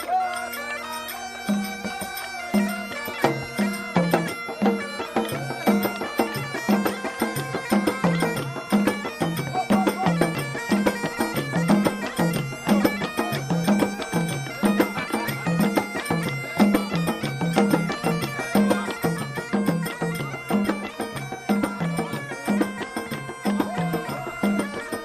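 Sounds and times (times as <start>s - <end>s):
music drone with melody: 0.0s - 25.0s.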